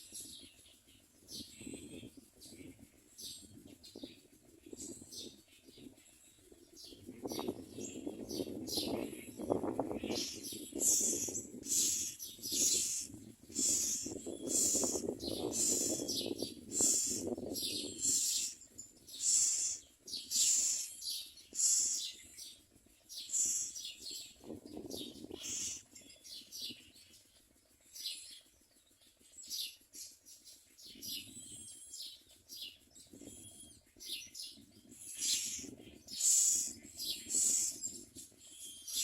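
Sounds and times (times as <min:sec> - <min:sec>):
bird chicks calling harshly: 0:00.0 - 0:27.2, 0:29.4 - 0:39.0.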